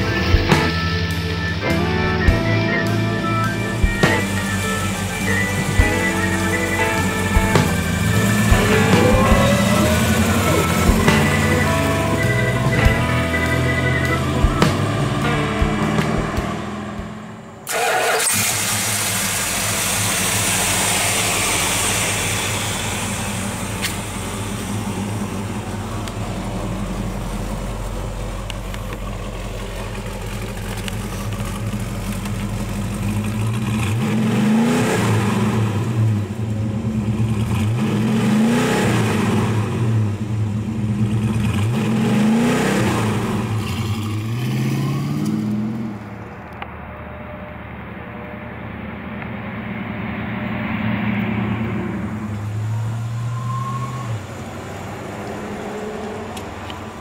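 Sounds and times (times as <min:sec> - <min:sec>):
car engine starting and idling: 0:00.0 - 0:57.0
engine revving: 0:00.0 - 0:57.0.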